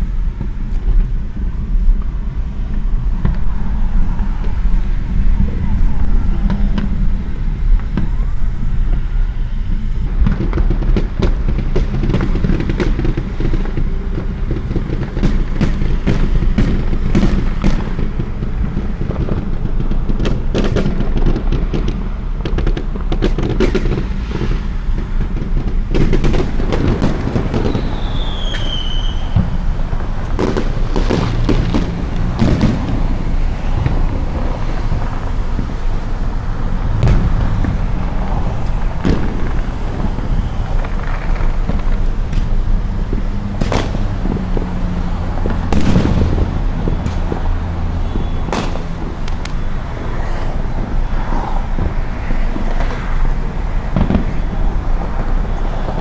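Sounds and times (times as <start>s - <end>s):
fireworks popping and banging: 0.0s - 56.0s
low rumble: 0.0s - 56.0s
falling firework whistle: 3.2s - 53.4s.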